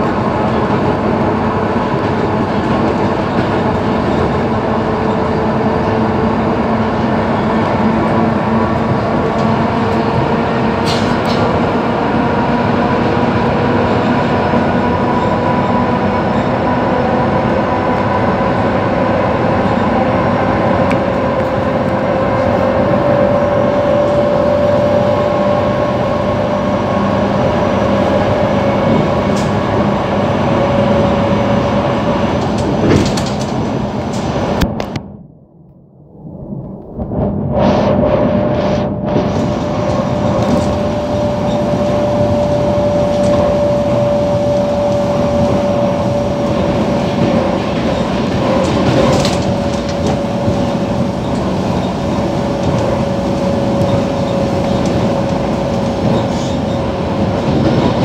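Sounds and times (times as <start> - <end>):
train wheels rumbling on rail: 0.0 - 35.2, 36.7 - 58.0.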